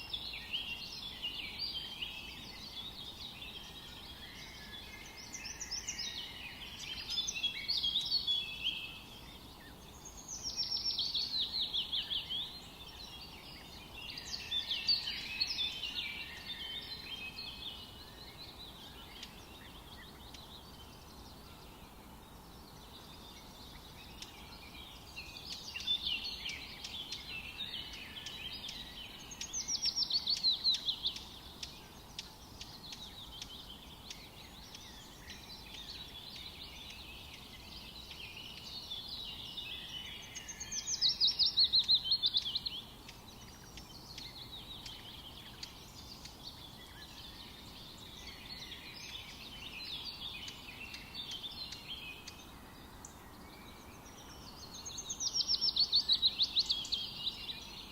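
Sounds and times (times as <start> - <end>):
birds singing: 0.0 - 57.9
faint background hiss: 0.0 - 57.9.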